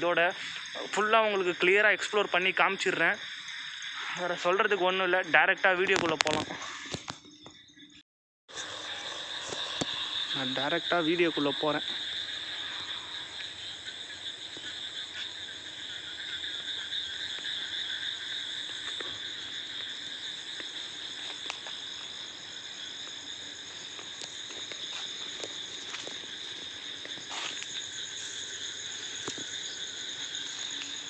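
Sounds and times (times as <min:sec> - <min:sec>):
insects and frogs calling: 0:00.0 - 0:31.0.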